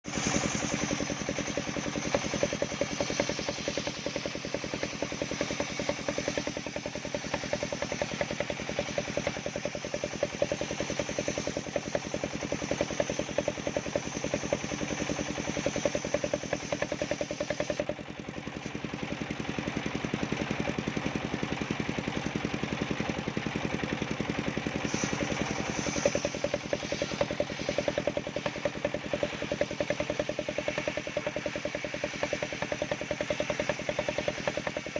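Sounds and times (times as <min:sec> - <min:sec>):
engine-driven circular saw cutting wood: 0:00.0 - 0:34.9.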